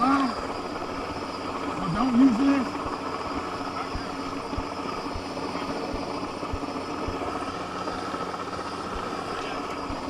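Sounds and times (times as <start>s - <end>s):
helicopter engine whine: 0.0s - 10.0s
helicopter rotor thumps: 0.0s - 10.0s.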